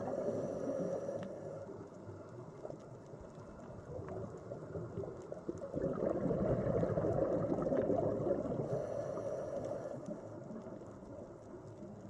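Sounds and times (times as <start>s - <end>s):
underwater bubbles gurgling: 0.0s - 12.0s.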